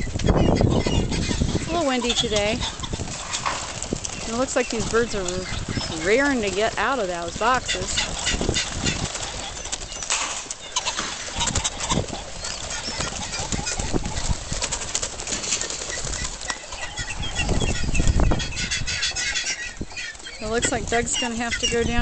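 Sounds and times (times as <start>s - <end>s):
pheasants flapping wings: 0.0s - 21.8s
wind buffeting microphone: 0.0s - 22.0s.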